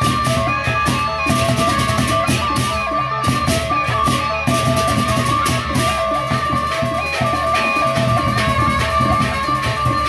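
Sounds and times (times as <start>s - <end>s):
barrel drums: 0.0s - 10.0s.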